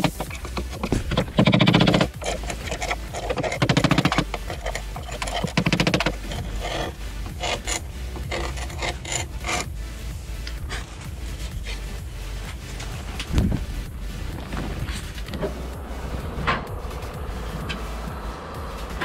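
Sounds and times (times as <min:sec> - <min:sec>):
low hum: 0:00.0 - 0:19.0
rapid scraping strokes: 0:00.0 - 0:19.0.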